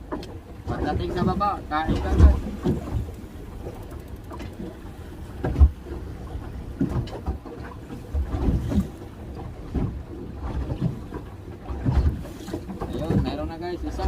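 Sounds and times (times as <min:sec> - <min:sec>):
boat knocks and thumps: 0:00.0 - 0:14.0
wind and water rumble: 0:00.0 - 0:14.0.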